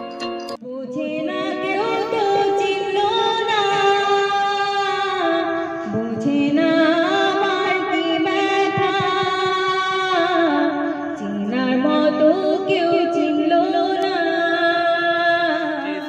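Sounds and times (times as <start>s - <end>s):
woman singing into microphone: 0.6s - 16.0s.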